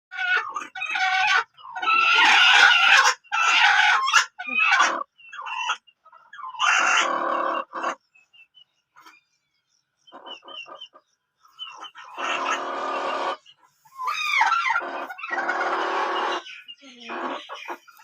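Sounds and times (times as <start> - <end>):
chickens squawking and clucking: 0.1 - 9.2, 10.0 - 18.0.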